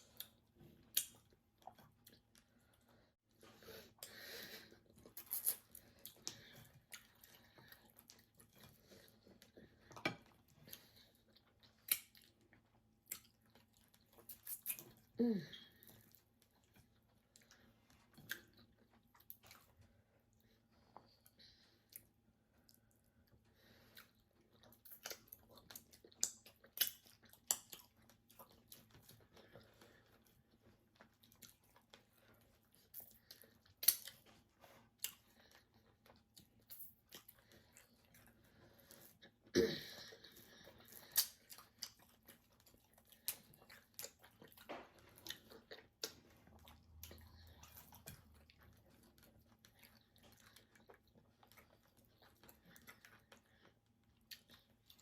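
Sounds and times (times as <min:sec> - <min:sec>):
chewing and lip smacks: 0:00.0 - 0:03.1, 0:03.9 - 0:15.2, 0:15.8 - 0:39.5, 0:40.1 - 0:55.0.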